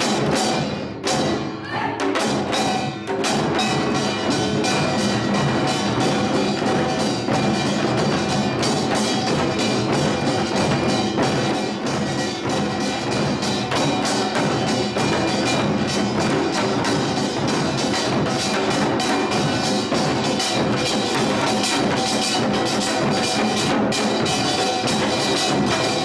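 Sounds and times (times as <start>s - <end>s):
drums beating: 0.0s - 26.0s.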